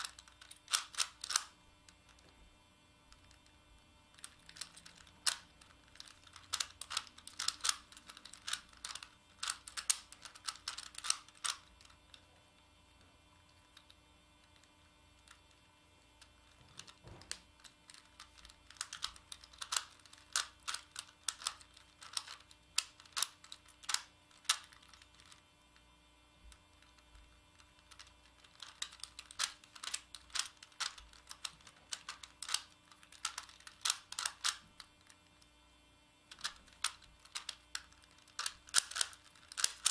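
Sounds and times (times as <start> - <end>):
puzzle cube plastic clicking: 0.0 - 2.4, 3.1 - 12.3, 13.0 - 25.8, 26.5 - 35.5, 36.3 - 39.9.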